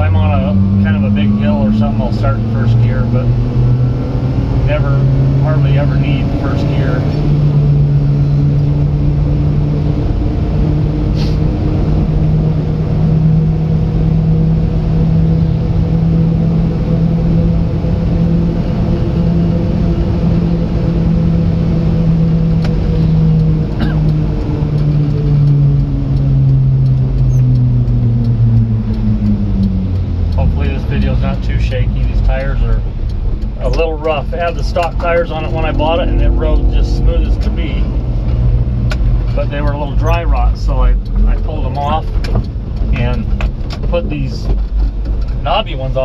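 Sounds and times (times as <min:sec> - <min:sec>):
truck engine running: 0:00.0 - 0:46.0.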